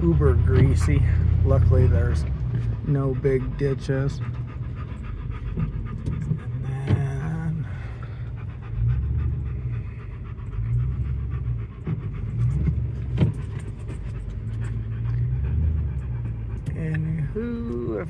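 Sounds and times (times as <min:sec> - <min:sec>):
dog panting: 0:00.0 - 0:18.0
vehicle engine rumbling: 0:00.0 - 0:18.0.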